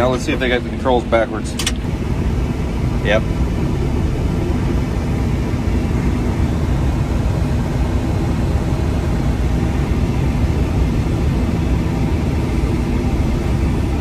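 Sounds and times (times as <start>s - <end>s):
diesel engine from inside cab: 0.0s - 14.0s.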